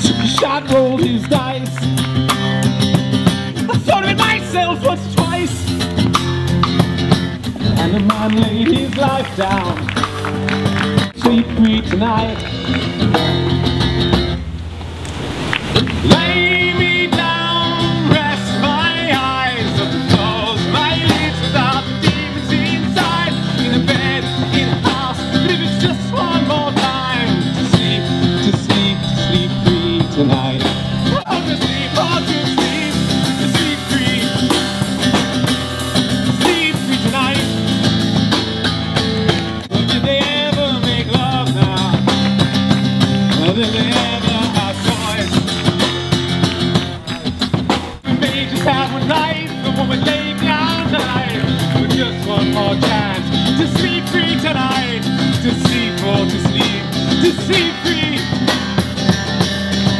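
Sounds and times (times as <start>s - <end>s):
bending lead guitar melody: 0.0s - 59.9s
strummed guitar accompaniment: 0.0s - 59.9s.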